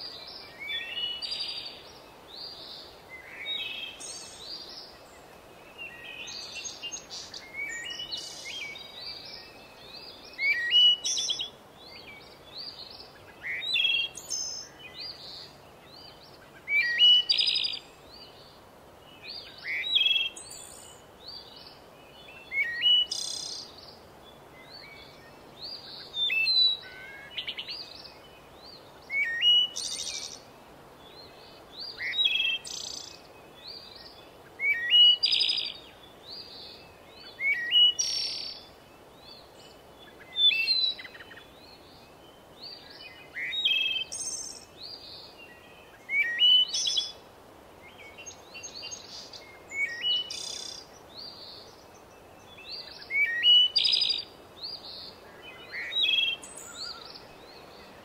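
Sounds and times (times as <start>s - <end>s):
faint bird chirps: 0.0s - 58.0s
songbird singing: 0.0s - 58.0s.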